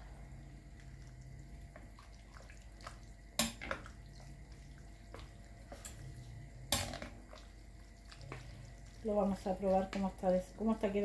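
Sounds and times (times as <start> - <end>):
spoon stirring wet mixture: 0.4 - 11.0.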